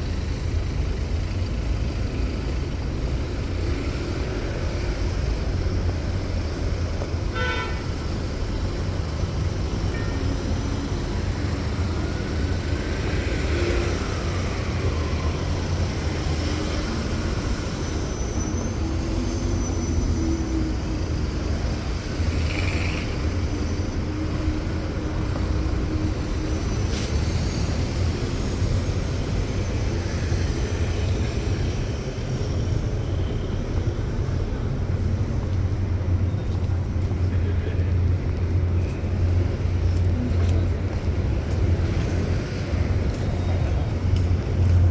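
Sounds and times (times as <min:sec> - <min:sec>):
traffic rumble: 0:00.0 - 0:44.9.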